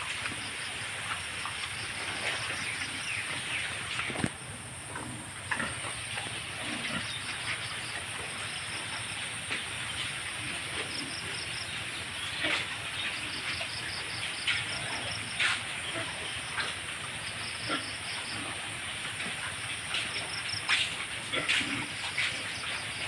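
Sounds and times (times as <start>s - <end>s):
insects chirping: 0.0s - 23.0s
pigs grunting: 1.0s - 23.0s.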